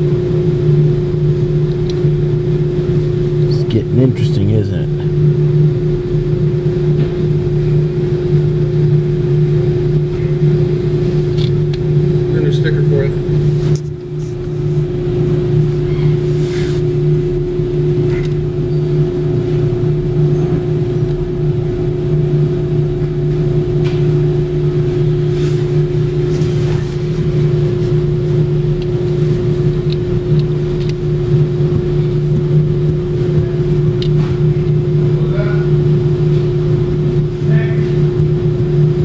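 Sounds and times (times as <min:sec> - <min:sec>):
motor droning: 0:00.0 - 0:39.0.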